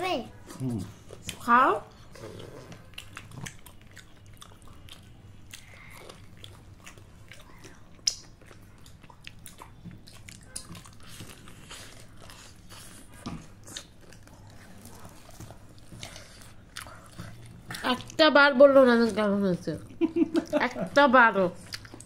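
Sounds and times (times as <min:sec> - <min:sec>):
chewing crunchy food: 0:00.4 - 0:18.2, 0:21.6 - 0:22.0.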